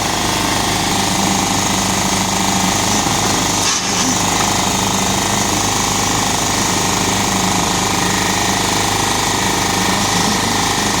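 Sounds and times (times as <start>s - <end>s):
construction machine hammering: 0.0s - 11.0s.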